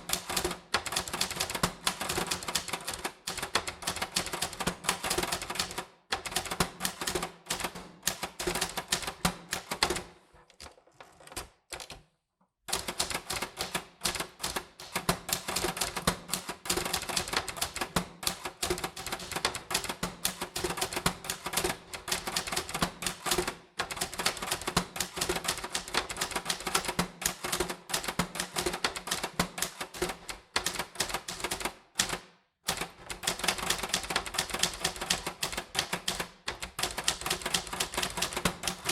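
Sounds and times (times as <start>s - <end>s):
typewriter keys striking: 0.0s - 12.1s, 12.7s - 38.9s.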